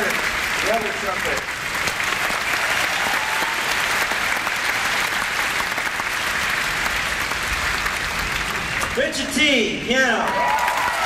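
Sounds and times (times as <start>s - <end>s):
stadium crowd applauding: 0.0s - 11.0s.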